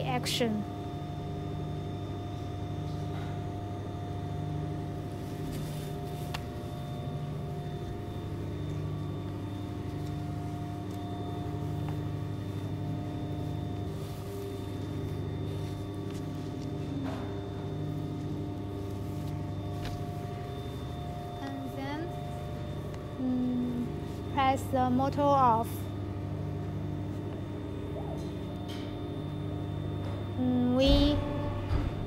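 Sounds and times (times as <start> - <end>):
printer hum and whine: 0.0 - 32.0.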